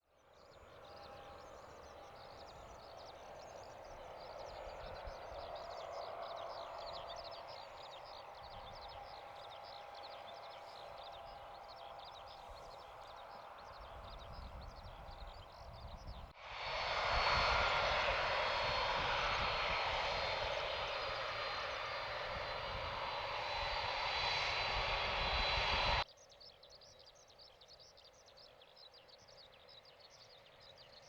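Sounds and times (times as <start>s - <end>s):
distant jet engines hum: 0.2s - 26.1s
birds chirping: 0.4s - 16.3s, 18.3s - 31.0s.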